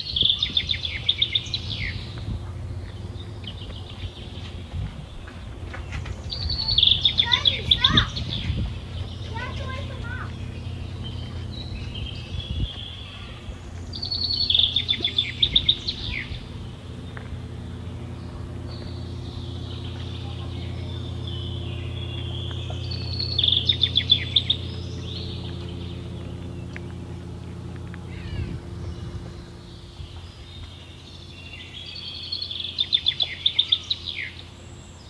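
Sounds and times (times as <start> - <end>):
songbird singing with trill: 0.0 - 35.0
steady low hum: 0.0 - 35.0.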